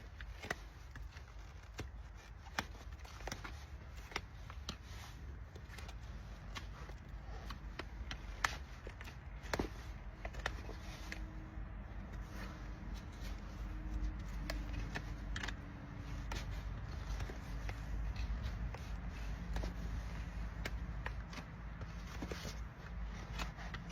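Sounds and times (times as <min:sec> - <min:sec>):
hoof trimming tools clicking: 0:00.0 - 0:23.9.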